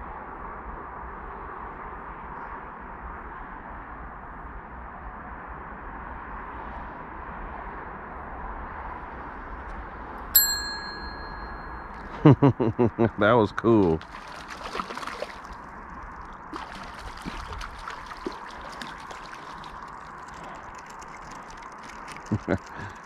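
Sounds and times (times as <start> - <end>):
steady outdoor ambient noise: 0.0 - 23.0.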